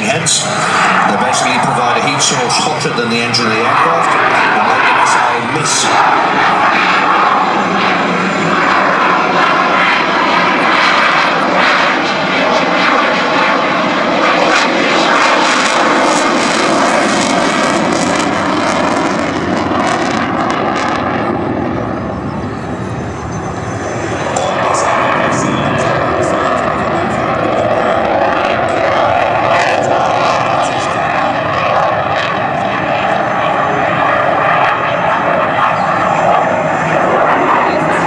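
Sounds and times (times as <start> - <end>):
jet roar: 0.0 - 38.0.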